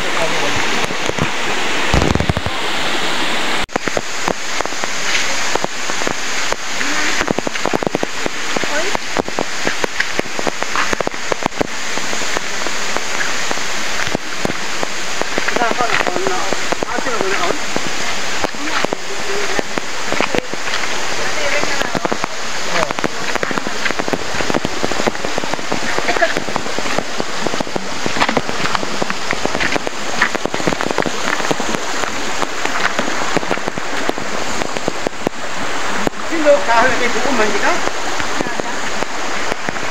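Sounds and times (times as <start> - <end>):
waterfall and river rushing: 0.0 - 39.9
footsteps on stony trail: 3.7 - 36.2.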